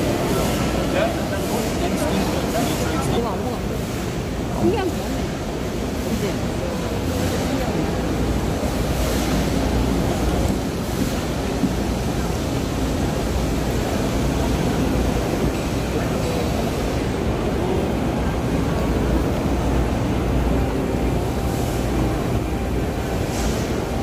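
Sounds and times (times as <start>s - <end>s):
indistinct crowd chatter: 0.0s - 24.0s.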